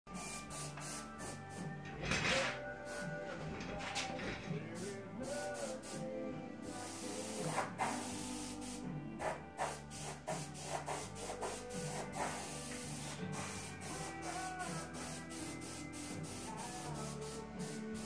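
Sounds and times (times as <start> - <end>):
airbrush hissing: 0.1 - 1.7, 2.9 - 3.2, 4.7 - 18.0
background music: 0.1 - 18.0.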